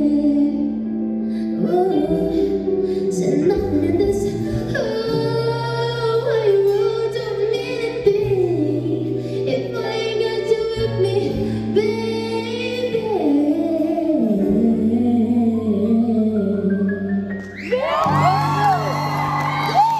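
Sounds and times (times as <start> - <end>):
sustained bass notes: 0.0 - 19.9.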